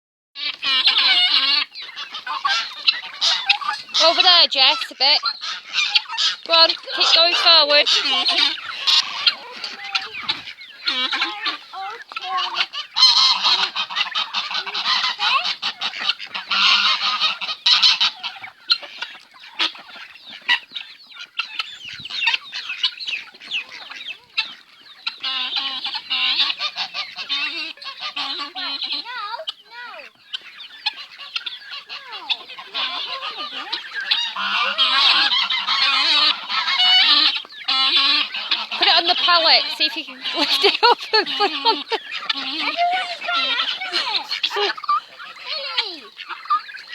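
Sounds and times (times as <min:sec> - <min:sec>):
geese honking: 0:00.4 - 0:46.9.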